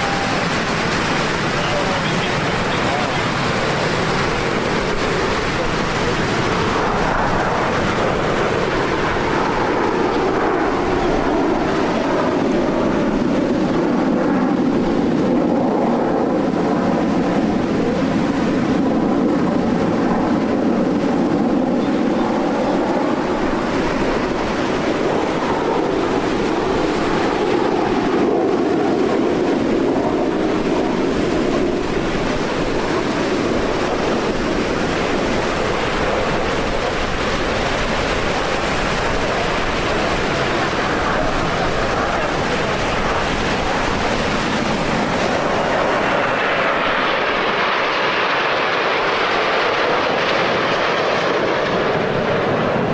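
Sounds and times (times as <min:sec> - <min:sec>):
jet engines roaring: 0:00.0 - 0:52.9.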